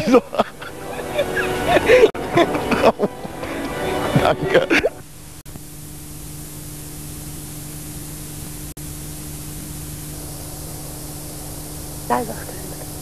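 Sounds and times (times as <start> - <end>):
low steady hum: 0.0 - 13.0
tape hiss: 0.0 - 13.0.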